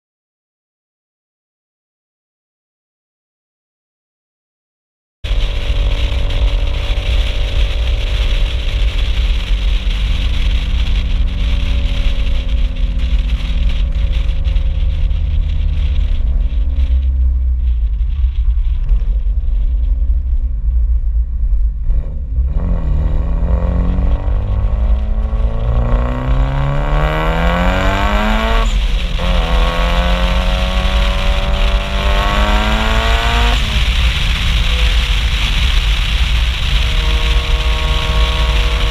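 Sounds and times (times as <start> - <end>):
heavy low rumble: 5.2 - 38.9
car engine revving: 5.3 - 38.9.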